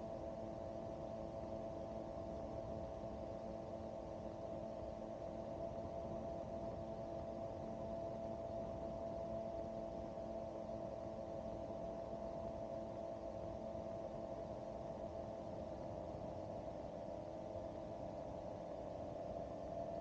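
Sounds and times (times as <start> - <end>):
gyroplane engine and propeller drone: 0.0 - 20.0.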